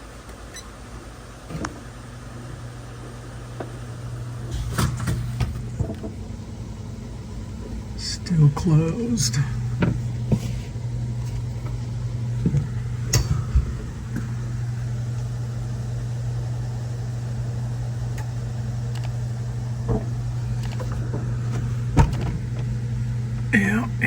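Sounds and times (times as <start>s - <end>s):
refrigerator humming: 0.0s - 24.0s.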